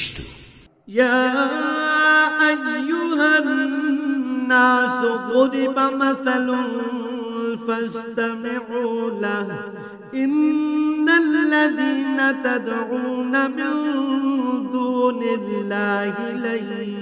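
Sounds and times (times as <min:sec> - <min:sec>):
man chanting melodically: 0:00.8 - 0:17.0.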